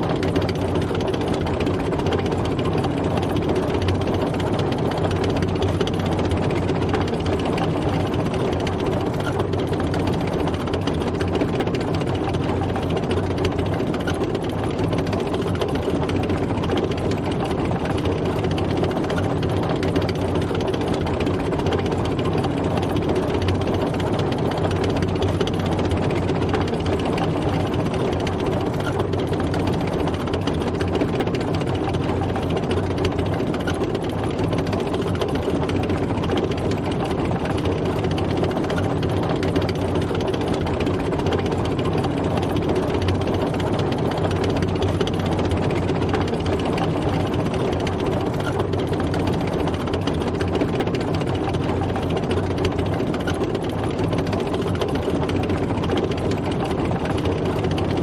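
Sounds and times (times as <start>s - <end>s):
tank engine running: 0.0s - 58.0s.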